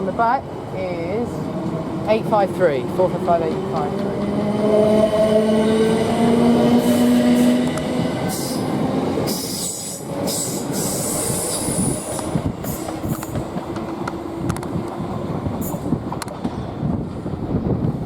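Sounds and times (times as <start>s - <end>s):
electric train rumbling on tracks: 0.0s - 18.0s.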